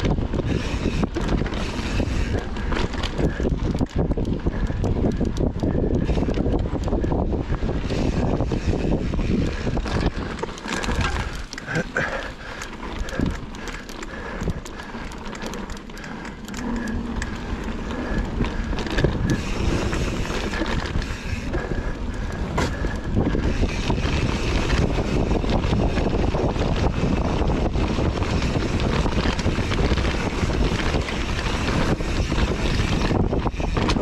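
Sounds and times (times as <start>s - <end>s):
bike clattering and rattling: 0.0s - 34.0s
bike tyres rolling over dirt: 0.0s - 34.0s
wind buffeting microphone: 0.0s - 34.0s.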